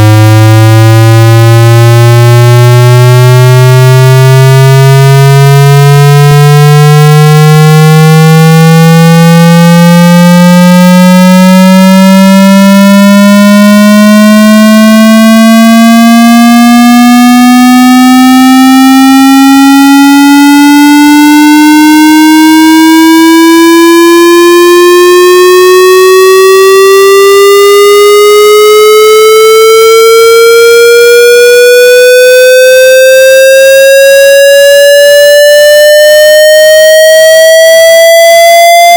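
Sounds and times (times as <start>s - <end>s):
distorted buzzy test tone rising: 0.0s - 38.9s.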